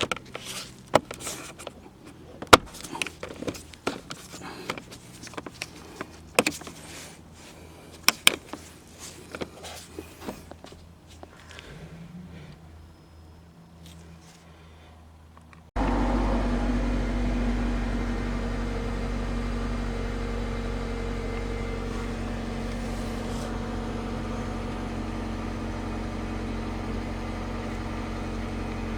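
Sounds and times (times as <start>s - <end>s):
vehicle engine running: 0.0s - 28.9s.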